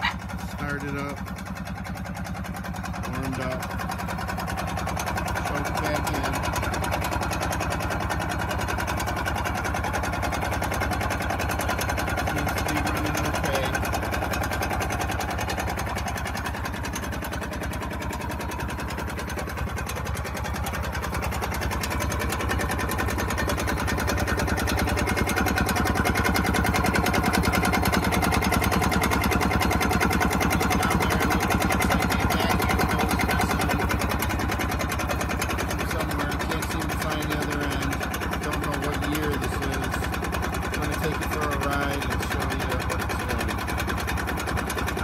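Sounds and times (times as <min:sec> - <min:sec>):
snowmobile engine idling: 0:00.0 - 0:45.0.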